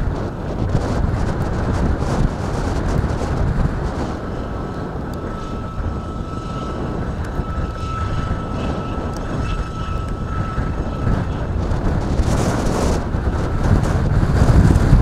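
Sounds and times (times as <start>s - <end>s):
faint high whine: 0.0s - 15.0s
wind buffeting microphone: 0.0s - 15.0s.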